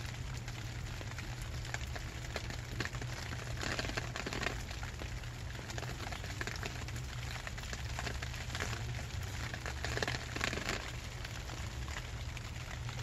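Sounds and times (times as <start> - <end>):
rain pattering on plastic tarp: 0.0 - 13.0.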